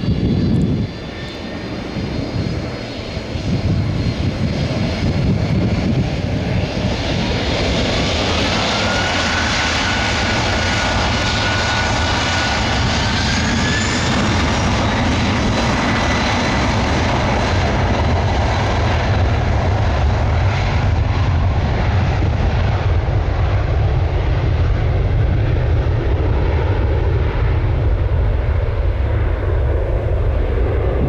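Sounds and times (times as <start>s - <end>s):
jet airliner taking off: 0.0s - 31.0s.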